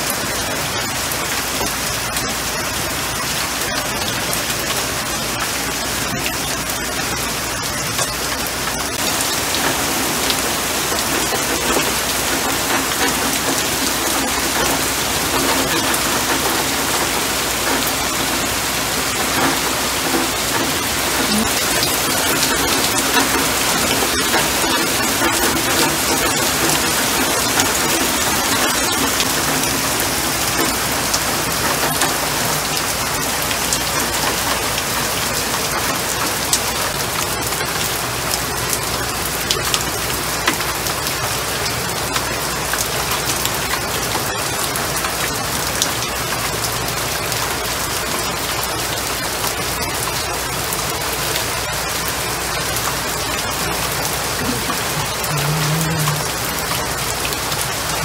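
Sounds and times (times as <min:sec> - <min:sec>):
rain on leaves and puddle: 0:00.0 - 0:58.0.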